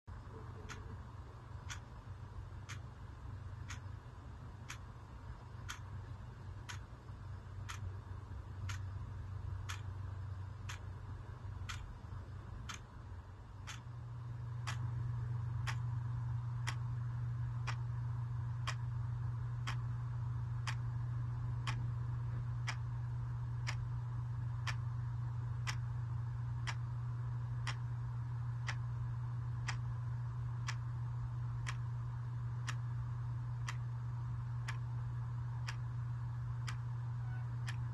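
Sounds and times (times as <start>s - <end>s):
steady low hum: 0.1s - 37.9s
wall clock ticking: 0.3s - 37.9s.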